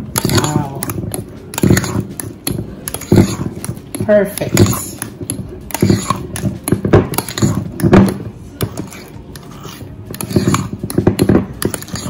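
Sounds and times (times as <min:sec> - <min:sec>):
fork whipping mashed potato: 0:00.0 - 0:12.0.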